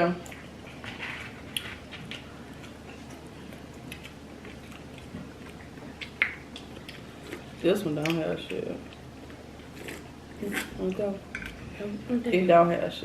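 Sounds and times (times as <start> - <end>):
chewing fried shrimp: 0.2 - 11.6.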